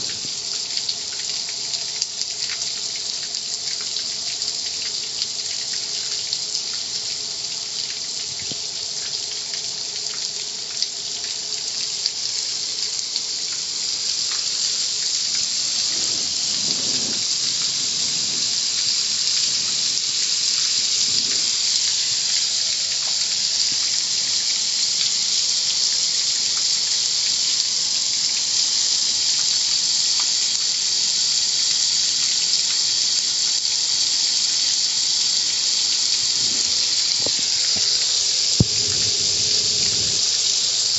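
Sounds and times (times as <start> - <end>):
water spraying hiss: 0.0 - 40.9.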